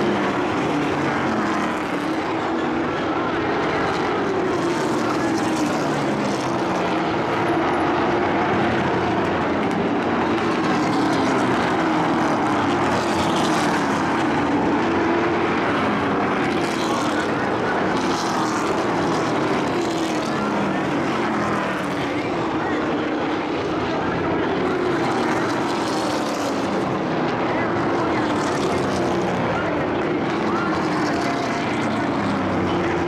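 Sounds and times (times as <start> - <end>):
truck engines droning: 0.0 - 33.0.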